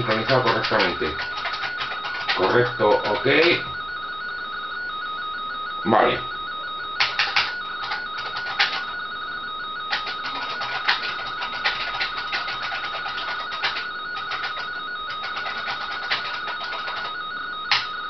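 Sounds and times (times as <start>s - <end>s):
warbling data tone: 0.0s - 18.0s.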